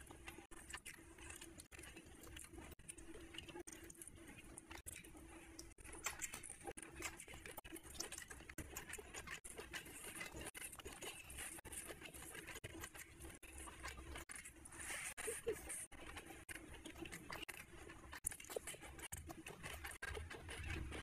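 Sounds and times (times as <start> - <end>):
fingers mixing rice on a plate: 0.0 - 21.0
chewing and mouth smacks: 0.5 - 21.0.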